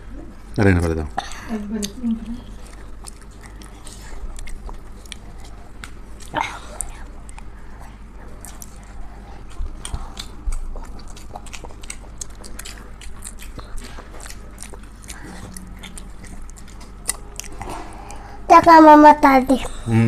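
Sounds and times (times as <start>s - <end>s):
people chewing and eating: 0.0s - 20.0s.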